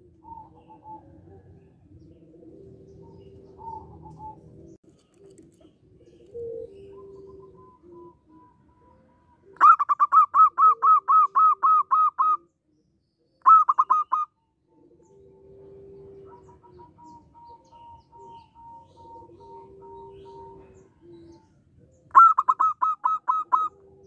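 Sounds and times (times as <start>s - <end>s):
dove cooing: 0.0s - 12.5s, 13.4s - 24.0s.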